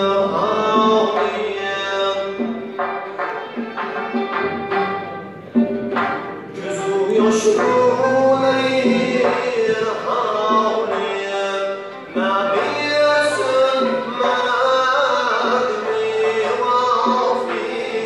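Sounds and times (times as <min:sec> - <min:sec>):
man singing: 0:00.0 - 0:03.2, 0:06.4 - 0:18.0
bowed fiddle: 0:00.0 - 0:18.0
plucked lutes: 0:00.0 - 0:18.0.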